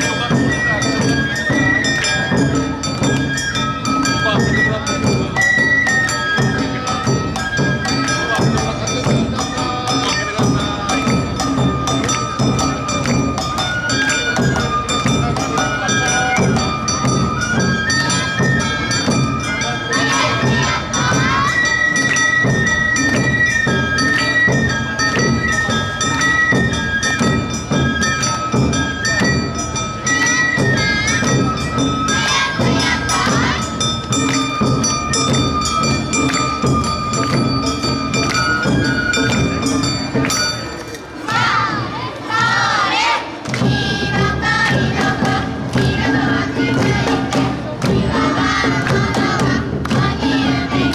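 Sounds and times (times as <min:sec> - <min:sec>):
bamboo flute: 0:00.0 - 0:50.9
drums beating: 0:00.0 - 0:50.9.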